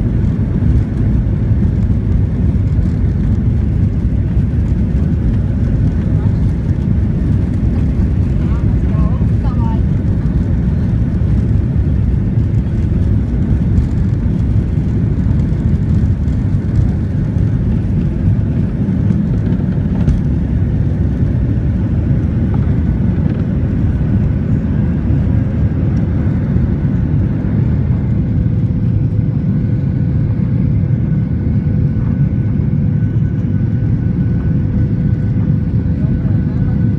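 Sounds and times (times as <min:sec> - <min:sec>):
jet engines at takeoff thrust: 0:00.0 - 0:36.9
loud steady cabin rumble: 0:00.0 - 0:36.9.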